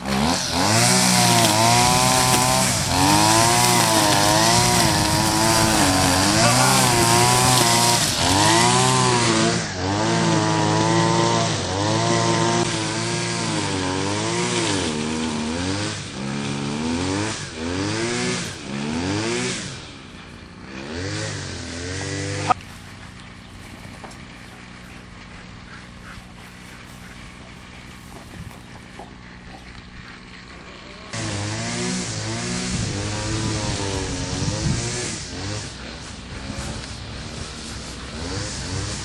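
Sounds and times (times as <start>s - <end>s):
chainsaw revving: 0.0s - 39.0s.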